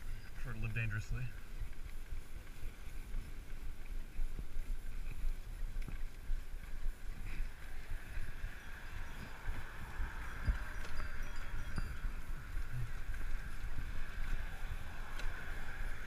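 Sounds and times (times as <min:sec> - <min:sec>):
wind buffeting microphone: 0:00.0 - 0:16.0
light knocks from bicycle ride: 0:01.2 - 0:16.0.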